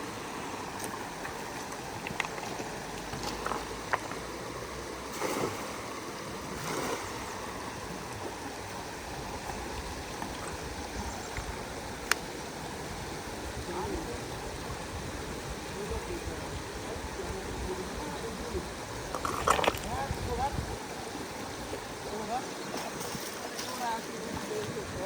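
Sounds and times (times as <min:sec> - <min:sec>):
flowing river water: 0:00.0 - 0:25.0
water swishes: 0:00.0 - 0:25.0.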